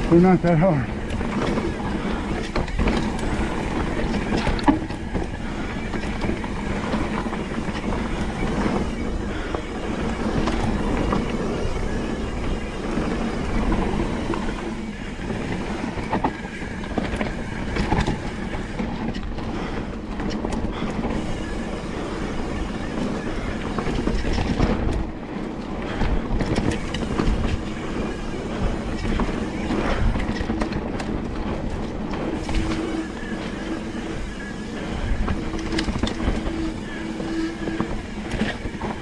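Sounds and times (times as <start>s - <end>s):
bike rattling over bumps: 0.0s - 39.0s
bike tyres rolling over dirt and rock: 0.0s - 39.0s.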